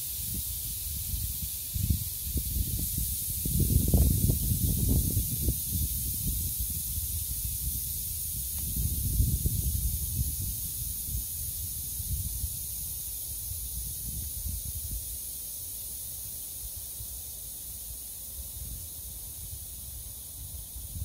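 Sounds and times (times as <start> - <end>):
wind rumble on microphone: 0.0 - 15.2, 18.5 - 21.0
air hissing out of tyre valve: 0.0 - 21.0.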